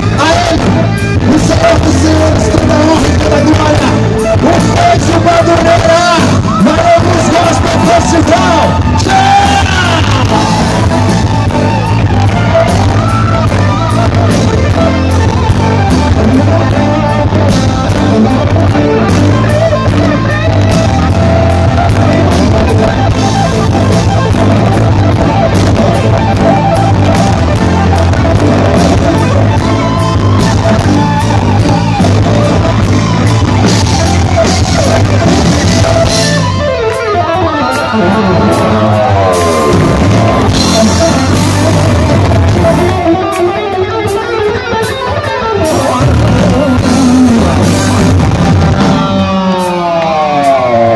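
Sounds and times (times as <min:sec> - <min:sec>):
bass guitar: 0:00.0 - 0:50.9
drums: 0:00.0 - 0:50.9
electric guitars: 0:00.0 - 0:50.9.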